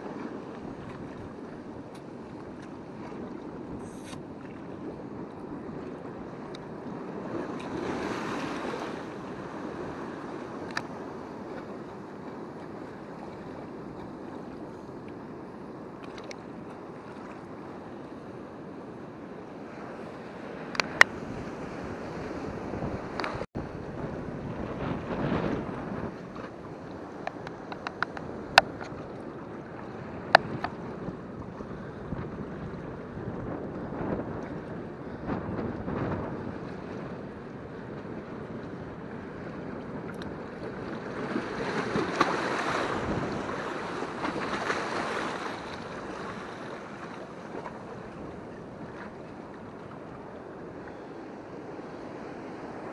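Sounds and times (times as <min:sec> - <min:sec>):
sea washing over rocks: 0:00.0 - 0:14.5, 0:20.7 - 0:49.7
wind on microphone: 0:00.0 - 0:52.9.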